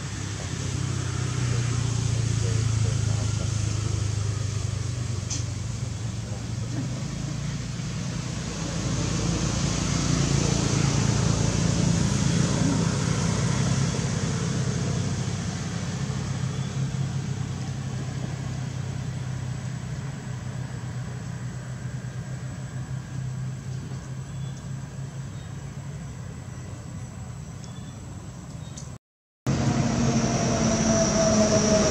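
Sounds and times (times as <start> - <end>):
vehicle engine humming: 0.0 - 31.9.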